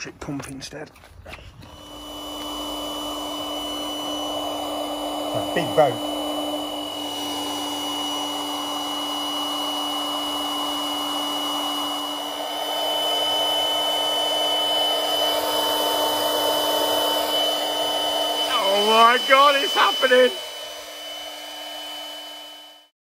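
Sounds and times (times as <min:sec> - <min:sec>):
electric air pump running: 0:01.1 - 0:23.0.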